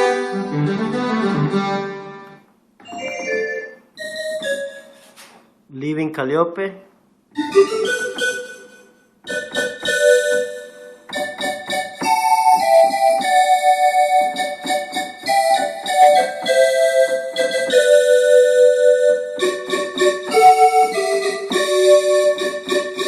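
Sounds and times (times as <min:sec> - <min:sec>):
synthesizer calliope melody: 0:00.0 - 0:05.3, 0:07.3 - 0:23.0.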